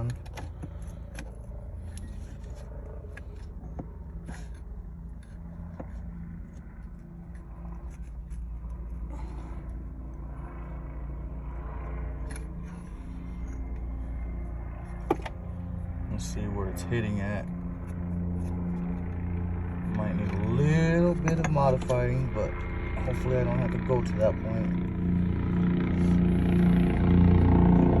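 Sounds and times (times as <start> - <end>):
low engine drone: 0.0 - 28.0.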